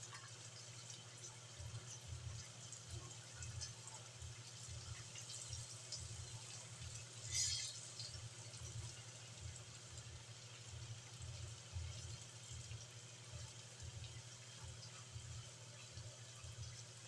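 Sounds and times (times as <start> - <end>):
chicken deep-frying in oil: 0.0 - 17.0
loud sizzle: 0.0 - 17.0.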